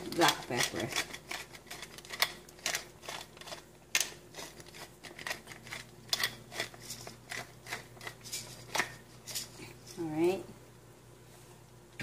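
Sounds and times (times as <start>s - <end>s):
pepper mill grinding: 0.0s - 10.0s.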